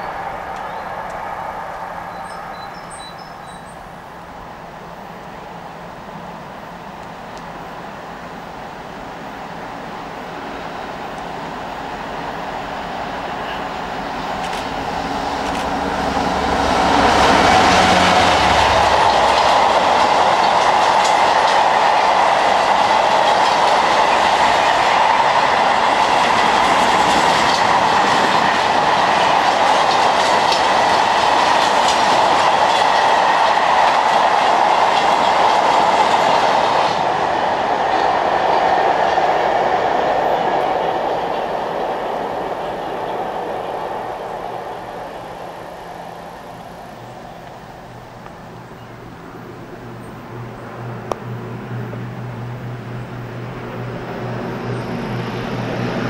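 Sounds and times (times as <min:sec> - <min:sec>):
train wheels clicking on rail: 0:00.0 - 0:48.9
diesel locomotive engine: 0:00.0 - 0:56.0.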